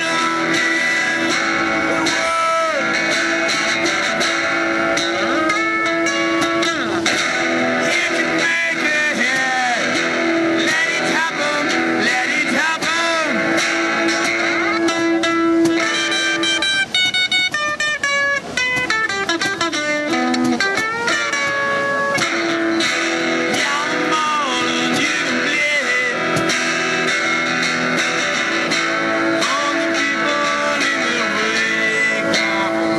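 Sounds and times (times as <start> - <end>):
guitar music: 0.0 - 32.9.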